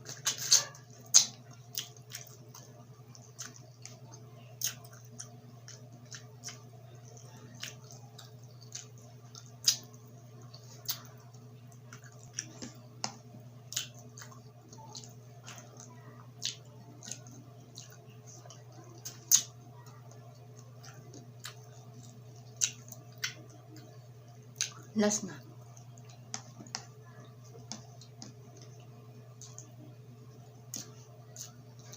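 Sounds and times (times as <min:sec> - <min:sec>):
chewing crunches: 0:00.0 - 0:24.9, 0:30.6 - 0:31.9
steady low hum: 0:00.0 - 0:31.9.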